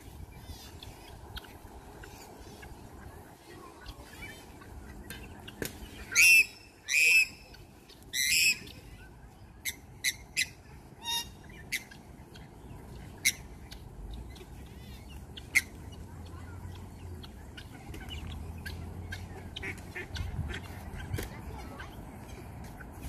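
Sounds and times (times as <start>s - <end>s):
birds chirping: 0.0s - 23.0s
birds squawking: 0.2s - 9.0s, 9.6s - 22.8s.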